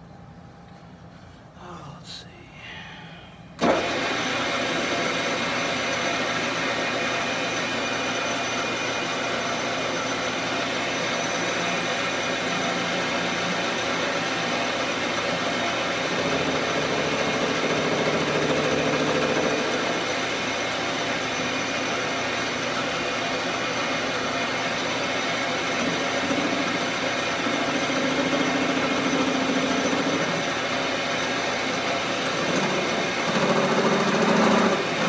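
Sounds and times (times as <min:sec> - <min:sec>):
metal lathe whining: 0:03.6 - 0:35.0.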